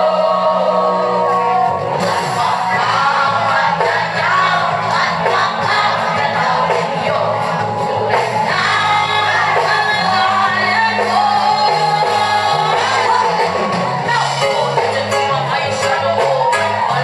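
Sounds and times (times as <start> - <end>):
audience singing along: 0.0 - 17.0
live reggae band: 0.0 - 17.0.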